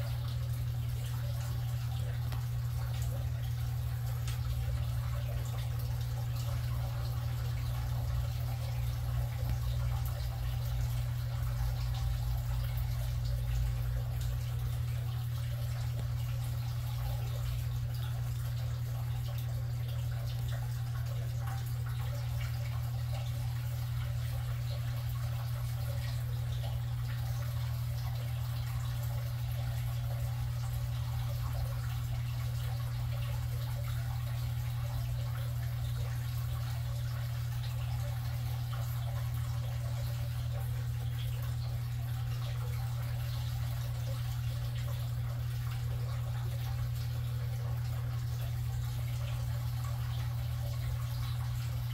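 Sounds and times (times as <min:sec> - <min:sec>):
steady low hum: 0:00.0 - 0:51.9
water dripping and trickling: 0:00.0 - 0:51.9.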